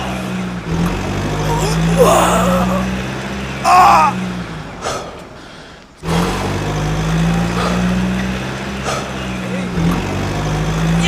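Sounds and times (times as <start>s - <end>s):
low vehicle engine drone: 0.0s - 11.0s.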